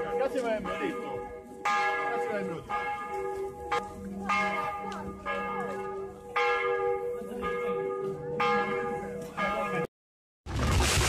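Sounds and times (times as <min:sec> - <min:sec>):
church bells ringing: 0:00.0 - 0:09.9.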